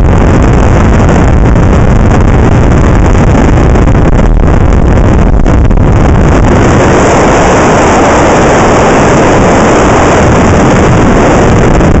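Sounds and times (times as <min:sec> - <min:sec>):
motorcycle rumble: 0:00.0 - 0:12.0
wind battering microphone: 0:00.0 - 0:12.0.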